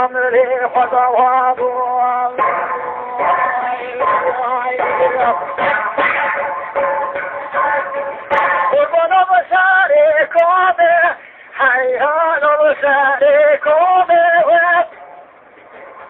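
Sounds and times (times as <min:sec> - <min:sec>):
man singing a hymn: 0:00.0 - 0:06.1, 0:07.3 - 0:15.0.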